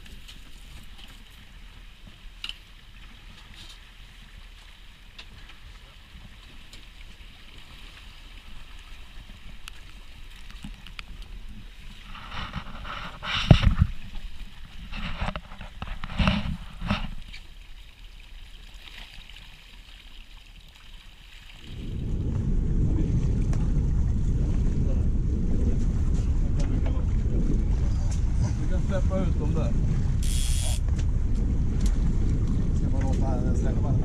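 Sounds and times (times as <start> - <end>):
wind rumbling on microphone: 0.0 - 17.4, 21.6 - 34.0.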